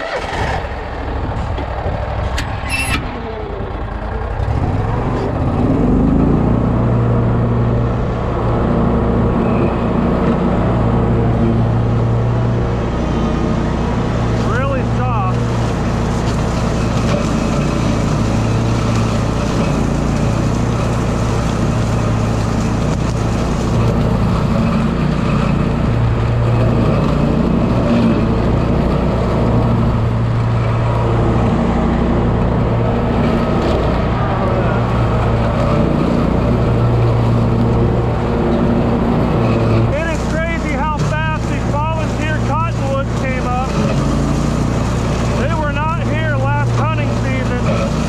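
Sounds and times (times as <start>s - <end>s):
riding lawn mower running: 0.0s - 48.0s.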